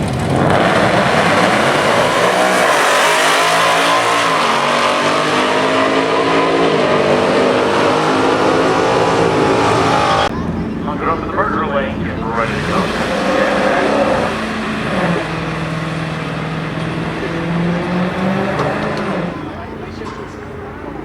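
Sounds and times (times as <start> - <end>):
car engines at full throttle: 0.0 - 21.0.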